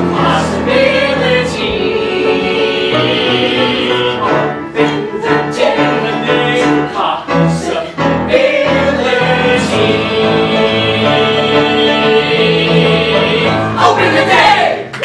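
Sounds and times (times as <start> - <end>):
choir singing with instruments: 0.0 - 14.9.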